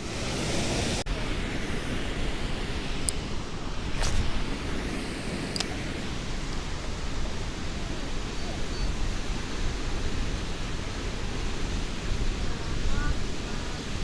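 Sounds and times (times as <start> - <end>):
steady rushing outdoor noise: 0.0 - 14.0.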